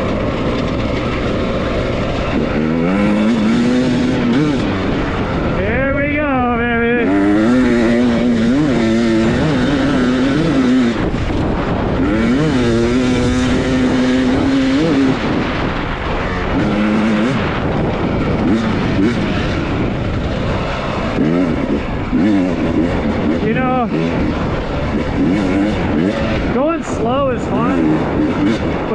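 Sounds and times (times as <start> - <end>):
dirt bike engine revving: 0.0 - 28.9
wind and tyre noise: 0.0 - 28.9.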